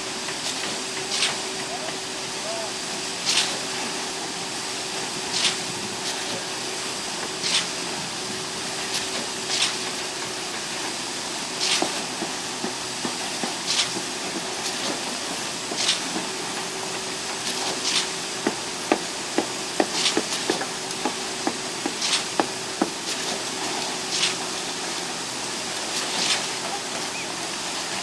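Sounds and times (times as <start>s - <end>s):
concrete pump running: 0.0s - 28.0s
pump hiss: 0.0s - 28.0s.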